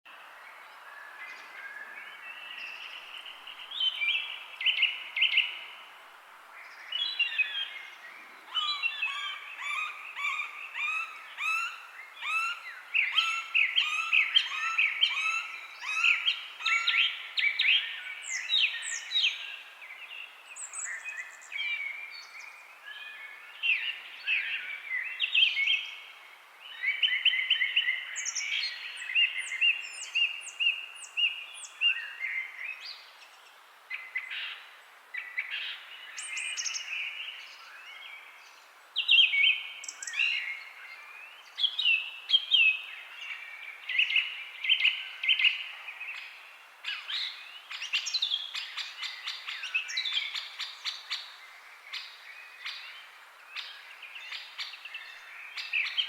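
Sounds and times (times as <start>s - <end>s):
songbirds chirping and trilling: 0.1s - 56.0s
steady background hiss: 0.1s - 56.0s.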